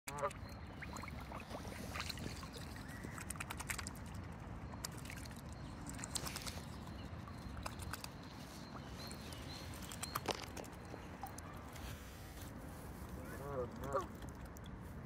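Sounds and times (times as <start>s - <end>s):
swan bill clicking on water: 0.1s - 11.7s, 13.4s - 14.8s
small water splashes: 0.1s - 11.8s, 13.2s - 15.0s.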